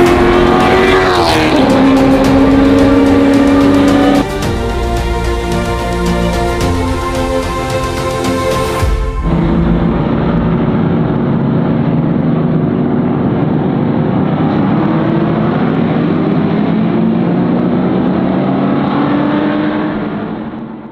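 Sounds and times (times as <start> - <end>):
race car engines roaring: 0.0 - 8.1, 9.2 - 20.9.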